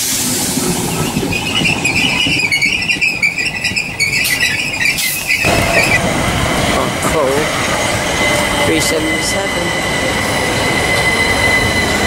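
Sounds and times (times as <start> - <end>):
train wheels squealing: 0.0 - 6.0, 7.2 - 12.0
train rumble: 0.0 - 12.0.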